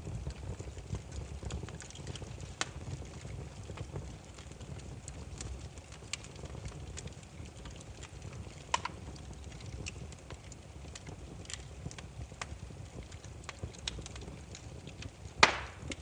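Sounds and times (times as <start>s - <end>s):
firewood crackling and popping: 0.0s - 16.0s
flames rumbling: 0.0s - 16.0s.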